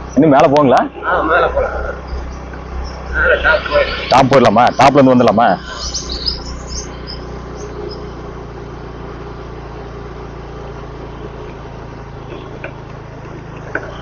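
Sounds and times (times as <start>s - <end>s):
birds chirping: 0.0s - 14.0s
motorcycle engine running: 0.0s - 14.0s.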